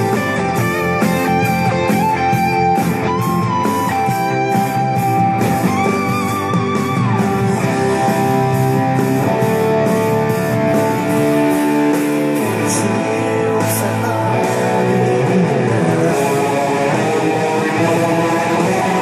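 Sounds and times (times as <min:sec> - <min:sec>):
electric guitar lead with vibrato: 0:00.0 - 0:19.0.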